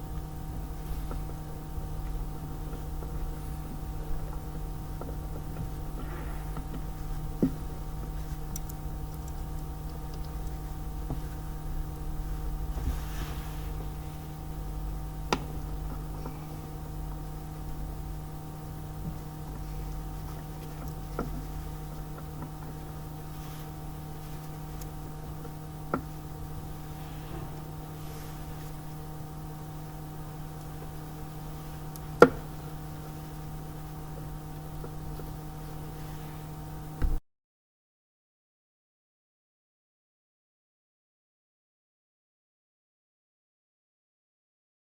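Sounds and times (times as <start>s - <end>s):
steady hum: 0.0s - 37.2s.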